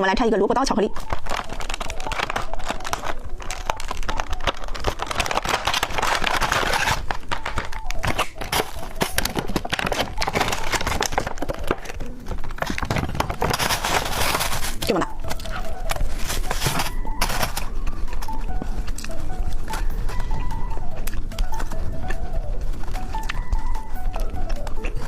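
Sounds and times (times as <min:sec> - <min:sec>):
candy wrapper crinkling: 0:00.6 - 0:25.0.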